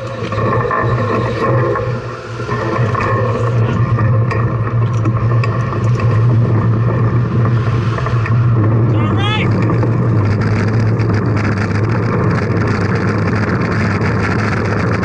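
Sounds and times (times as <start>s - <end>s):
low road noise hum: 0.0s - 15.0s.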